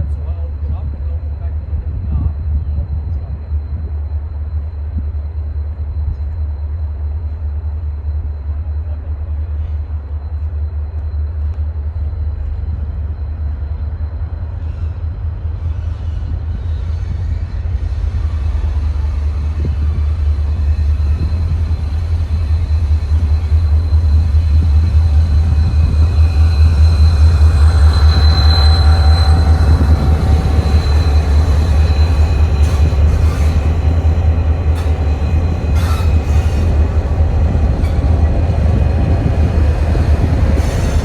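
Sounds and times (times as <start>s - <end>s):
diesel locomotive rumbling: 0.0s - 41.0s.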